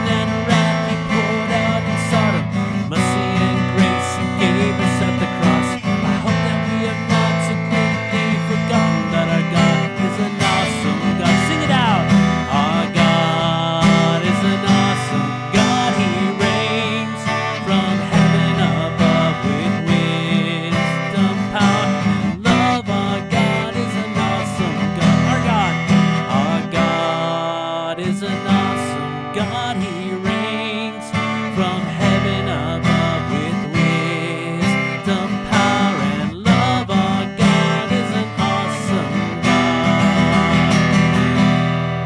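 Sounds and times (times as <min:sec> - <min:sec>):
man singing: 0:00.0 - 0:41.6
acoustic guitar strumming: 0:00.0 - 0:42.0.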